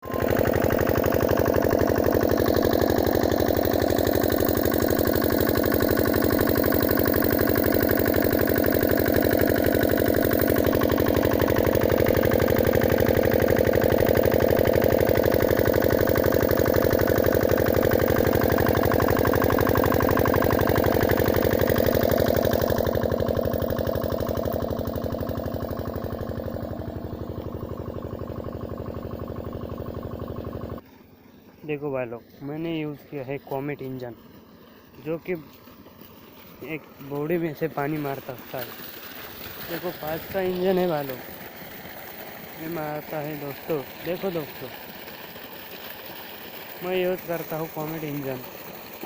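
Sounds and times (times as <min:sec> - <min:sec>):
water pump engine running: 0:00.0 - 0:49.0.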